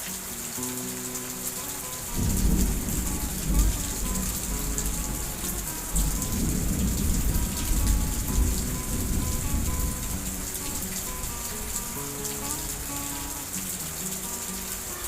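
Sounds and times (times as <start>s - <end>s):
heavy rain hissing: 0.0s - 15.0s
thunder rumbling: 1.2s - 15.0s.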